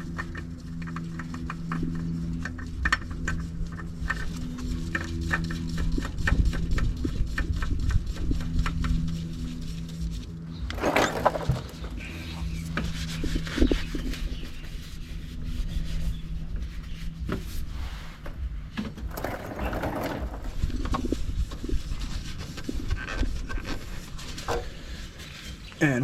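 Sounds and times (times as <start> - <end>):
oil filter rubbing and scraping: 0.0 - 25.7.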